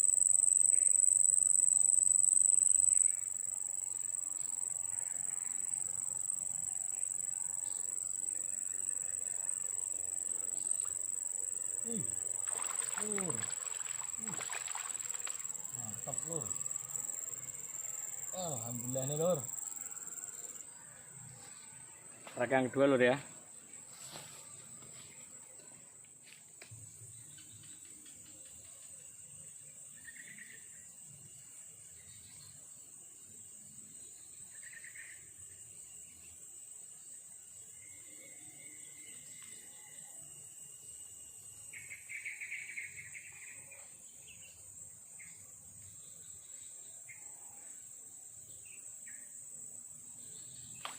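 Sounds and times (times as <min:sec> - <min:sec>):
insects trilling: 0:00.0 - 0:50.9.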